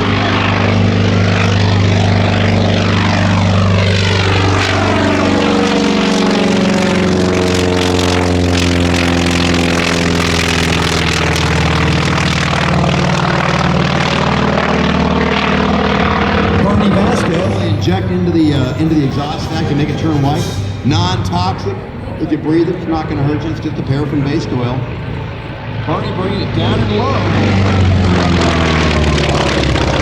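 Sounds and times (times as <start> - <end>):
propeller plane flying by: 0.0 - 30.0.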